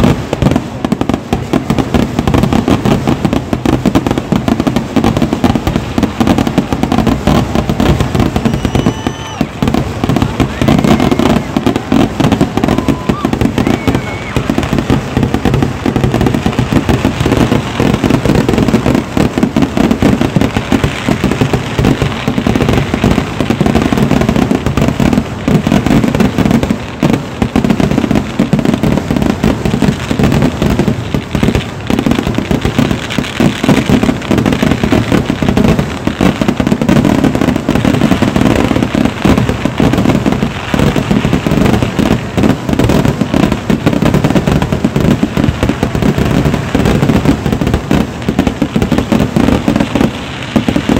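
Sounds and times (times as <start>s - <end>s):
firecracker bangs and crackling: 0.0s - 50.9s.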